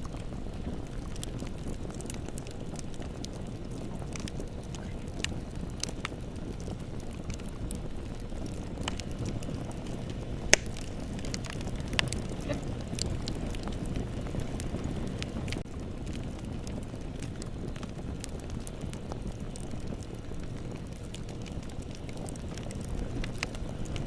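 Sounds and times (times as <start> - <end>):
fire crackling and popping: 0.0 - 24.0
rush of fire flames: 0.0 - 24.0.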